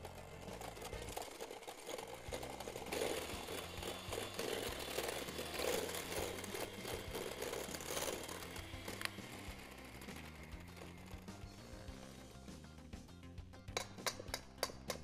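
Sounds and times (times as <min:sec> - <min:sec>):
electric hand mixer whipping: 0:00.0 - 0:12.3.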